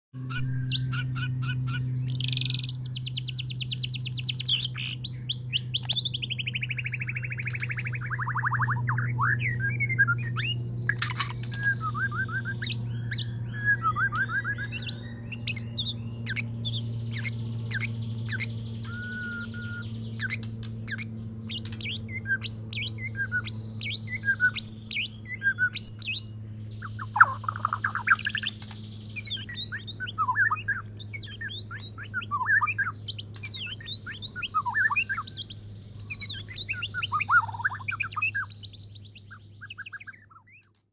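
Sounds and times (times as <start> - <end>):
bird singing whistles and chirps: 0.2 - 40.8
steady low hum: 0.2 - 40.9.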